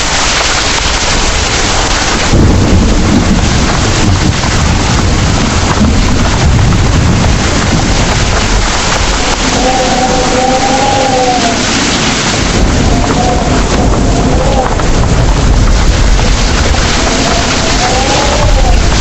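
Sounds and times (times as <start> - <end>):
heavy rain pouring: 0.0 - 19.0
rolling thunder: 0.7 - 19.0.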